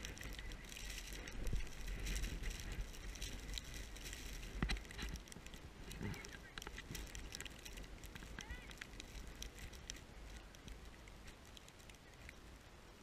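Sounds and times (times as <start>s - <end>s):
wind buffeting microphone: 0.0s - 12.3s.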